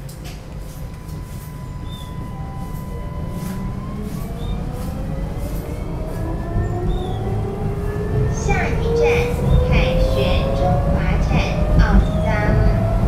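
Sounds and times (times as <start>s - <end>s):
traction motors whining: 0.0s - 13.0s
tram rumbling: 0.0s - 13.0s.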